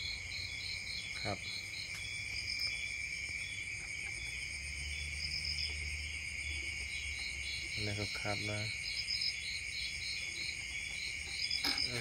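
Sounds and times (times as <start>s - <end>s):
cricket trill: 0.0s - 12.0s
insect chirping: 0.0s - 12.0s.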